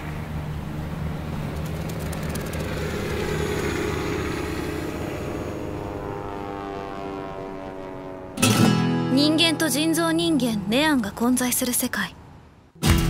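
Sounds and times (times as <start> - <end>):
aircraft engines droning: 0.0 - 12.8.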